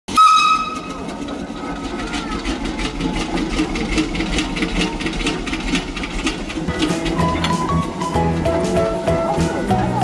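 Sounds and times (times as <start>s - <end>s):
machinery chugging: 0.1s - 10.0s.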